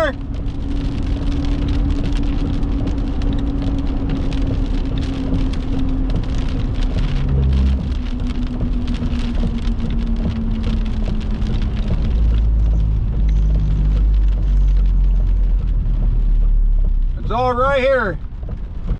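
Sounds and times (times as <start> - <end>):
heavy rain pelting: 0.0 - 18.9.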